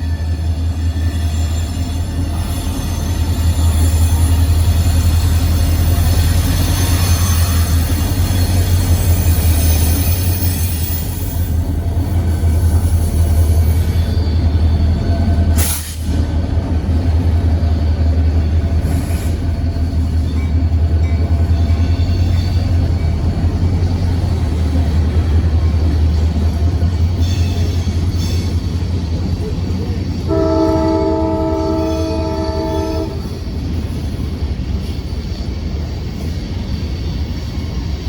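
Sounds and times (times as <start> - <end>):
train cars rumbling on rails: 0.0 - 38.0.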